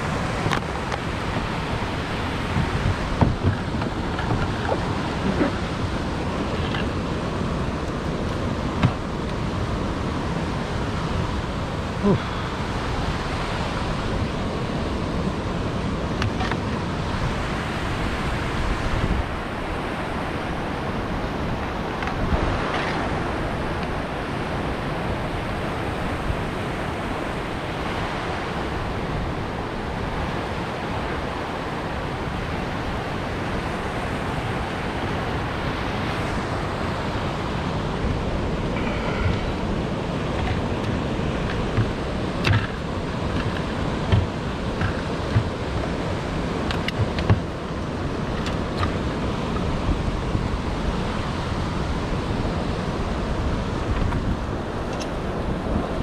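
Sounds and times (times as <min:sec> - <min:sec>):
rushing whitewater: 0:00.0 - 0:56.0
wind on microphone: 0:00.0 - 0:56.0.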